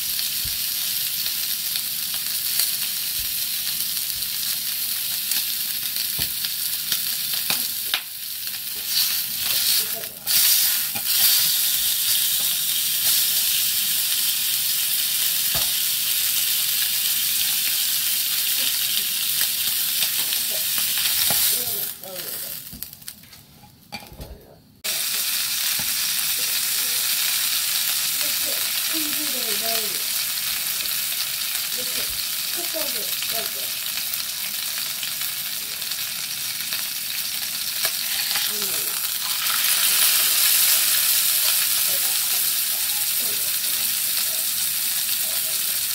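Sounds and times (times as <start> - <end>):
steak sizzling in a pot: 0.0 - 23.4, 24.7 - 45.9.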